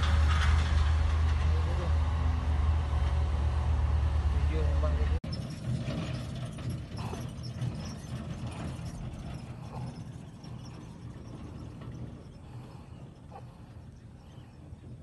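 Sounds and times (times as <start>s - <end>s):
distant heavy machinery engine: 0.0s - 15.0s.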